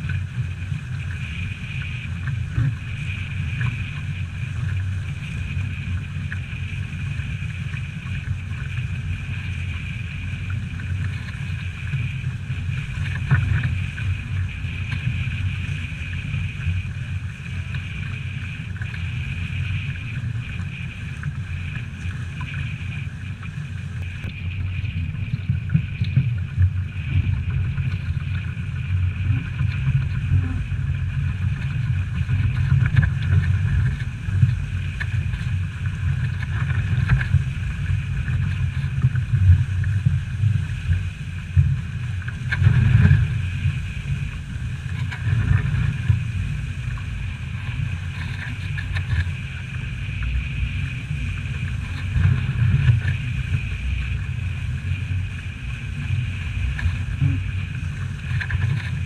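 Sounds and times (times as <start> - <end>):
steady high whine: 0.0 - 59.0
water rushing past hull: 0.0 - 59.0.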